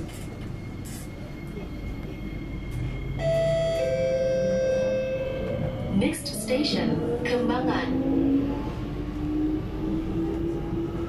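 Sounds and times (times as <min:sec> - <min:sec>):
stationary train hum: 0:00.0 - 0:11.0.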